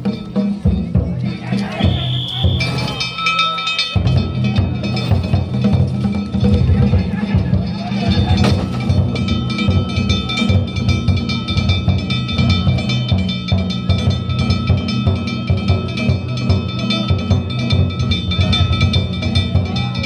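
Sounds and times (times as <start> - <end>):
metal hand gongs ringing: 0.0 - 20.0
taiko drums beaten fast: 0.0 - 20.0.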